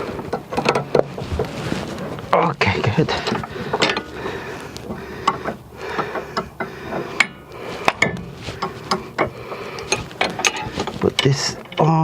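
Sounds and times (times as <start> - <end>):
tools clanking on metal parts: 0.0 - 1.5, 2.8 - 4.2, 4.9 - 12.0.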